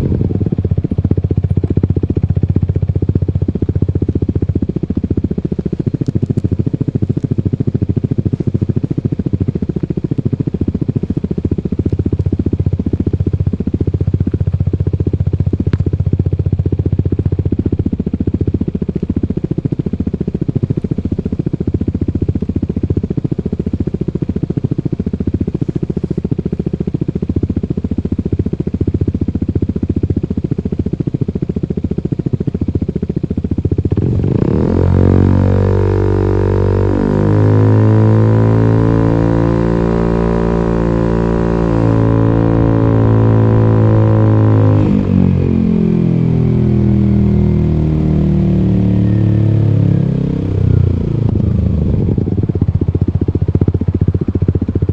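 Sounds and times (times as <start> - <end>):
scooter engine low exhaust beat: 0.0 - 54.9.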